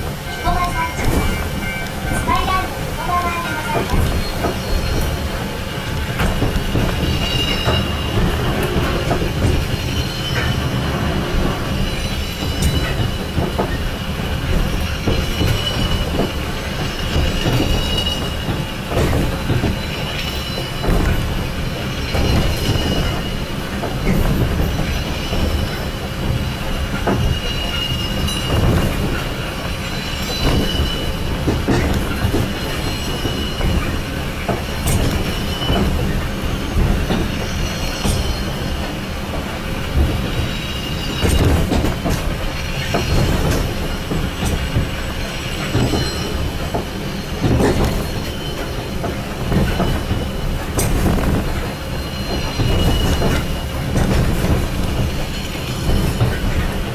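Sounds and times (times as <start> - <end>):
funicular car rumbling on track: 0.0 - 56.9.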